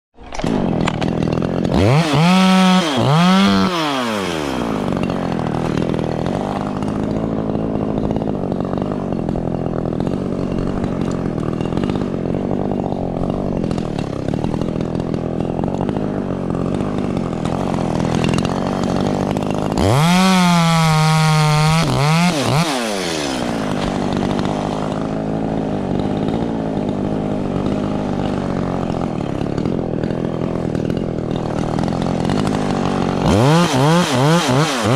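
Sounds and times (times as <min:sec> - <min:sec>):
chainsaw revving: 0:00.2 - 0:34.9.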